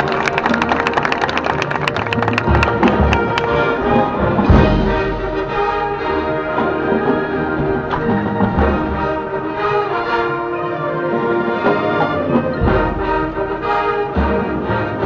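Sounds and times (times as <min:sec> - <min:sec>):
deep low brass notes: 0:00.0 - 0:15.0
marching band playing chords: 0:00.0 - 0:15.0.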